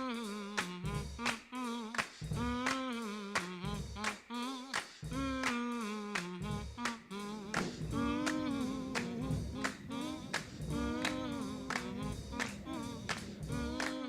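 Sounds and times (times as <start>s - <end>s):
percussive beat: 0.0s - 14.0s
person singing: 0.0s - 14.0s.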